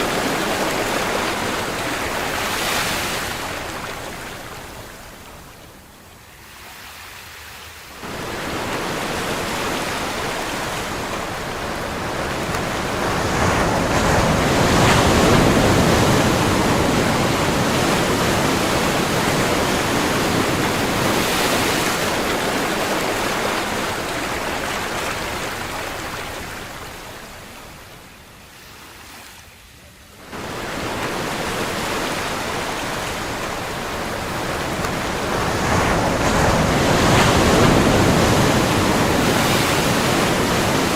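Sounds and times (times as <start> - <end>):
ocean waves breaking: 0.0 - 29.4, 30.2 - 40.9.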